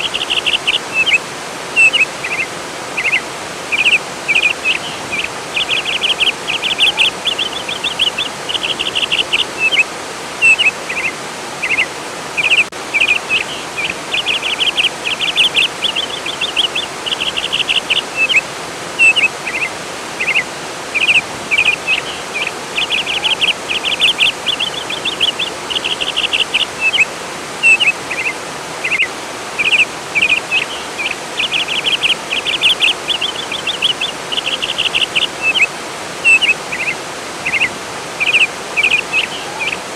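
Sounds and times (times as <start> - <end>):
songbird chirping and trilling: 0.0 - 1.2, 1.8 - 39.9
flowing water: 0.0 - 39.9.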